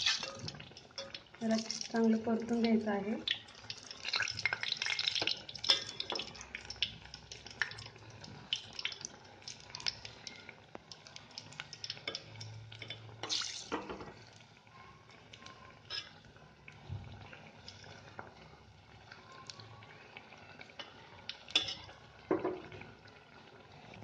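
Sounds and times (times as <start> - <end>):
food deep-frying in hot oil: 0.0 - 24.0.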